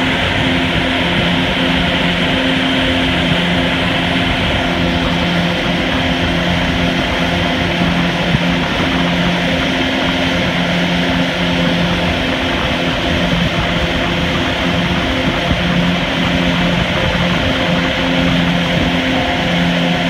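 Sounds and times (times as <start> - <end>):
churning wake water: 0.0 - 20.0
motorboat engine running: 0.0 - 20.0.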